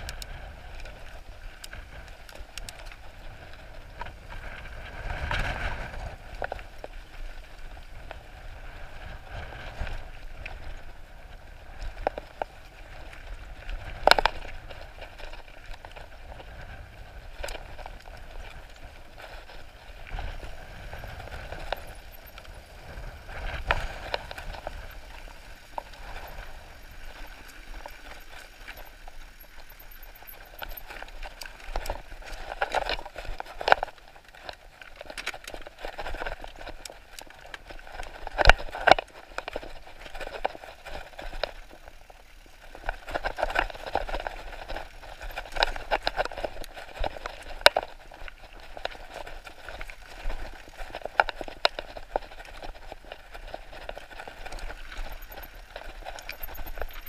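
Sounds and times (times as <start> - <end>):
bicycle rattles and knocks: 0.0 - 57.0
bicycle rolling on dirt trail: 0.0 - 57.0.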